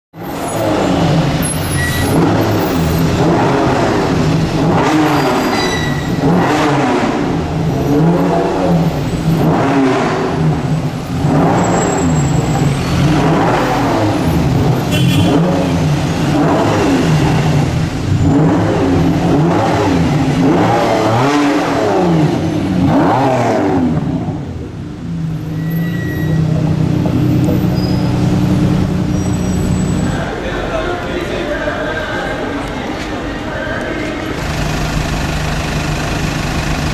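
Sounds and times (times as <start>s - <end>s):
car engine revving and idling: 0.2s - 30.2s, 34.0s - 36.9s.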